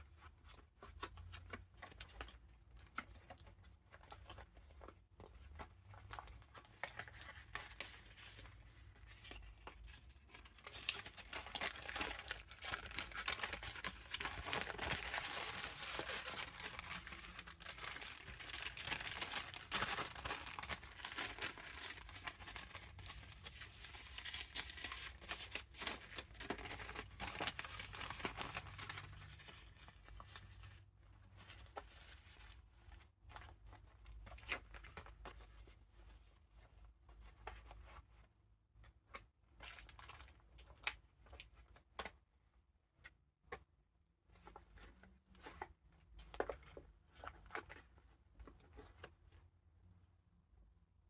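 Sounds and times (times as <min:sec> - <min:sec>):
paper pages rustling and crinkling: 0:00.0 - 0:38.2, 0:44.3 - 0:49.5.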